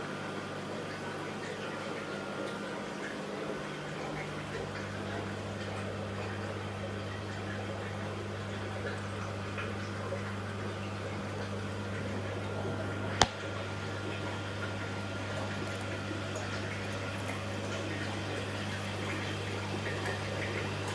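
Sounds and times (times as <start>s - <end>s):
low electrical hum: 0.0s - 20.9s.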